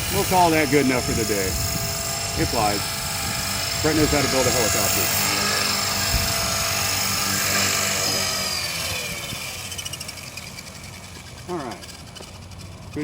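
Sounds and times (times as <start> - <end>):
rc helicopter motor and rotor whining: 0.0 - 13.0.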